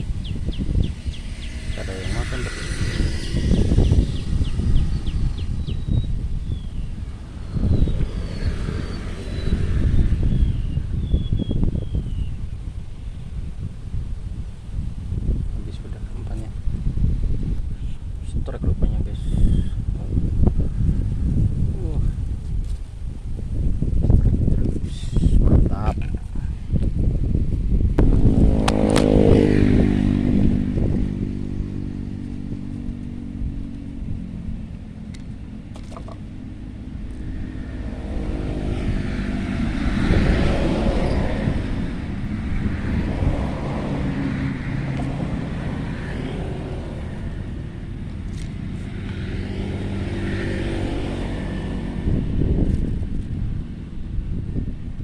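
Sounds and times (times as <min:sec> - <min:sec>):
road noise: 0:00.0 - 0:55.0
vehicles passing: 0:00.0 - 0:55.0.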